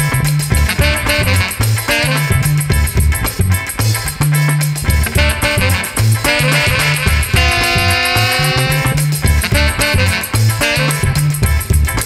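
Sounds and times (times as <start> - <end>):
upbeat background music: 0.0 - 12.0.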